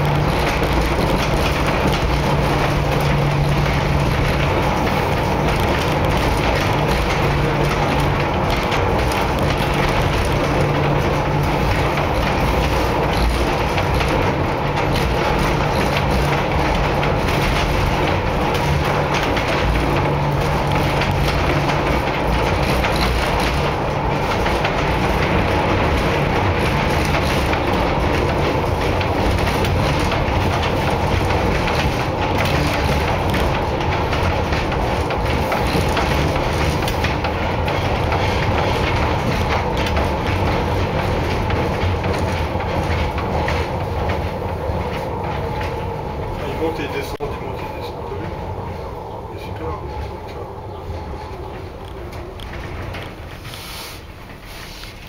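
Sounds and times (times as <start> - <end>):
funicular car rumbling on rails: 0.0 - 55.0.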